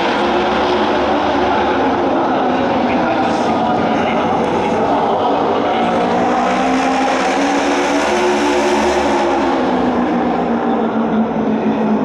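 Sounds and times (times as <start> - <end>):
racing motorcycles at full throttle: 0.0 - 12.0.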